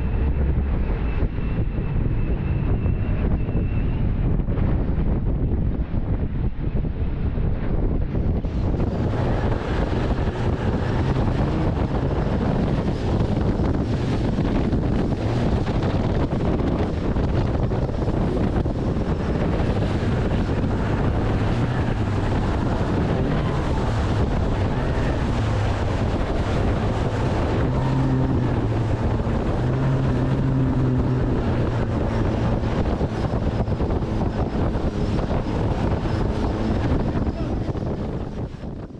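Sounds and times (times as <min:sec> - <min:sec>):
boat motor hum: 0:00.0 - 0:38.9
wind buffeting microphone: 0:00.0 - 0:38.9.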